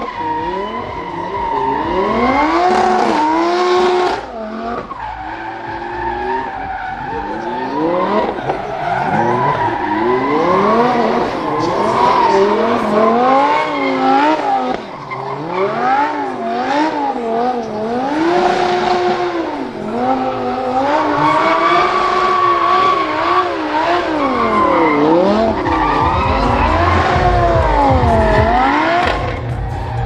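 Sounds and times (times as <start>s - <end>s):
car engine revving: 0.0s - 30.0s
tyres squealing: 0.0s - 30.0s.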